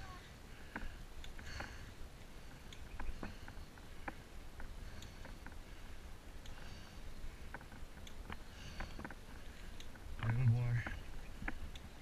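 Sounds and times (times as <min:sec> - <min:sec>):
bicycle riding rumble: 0:00.0 - 0:12.0
bike clicks and rattles: 0:00.1 - 0:12.0.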